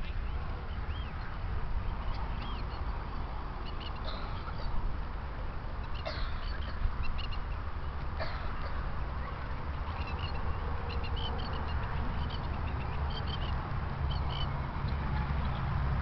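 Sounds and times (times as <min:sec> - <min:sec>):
birds chirping: 0:00.0 - 0:04.9, 0:05.7 - 0:15.8.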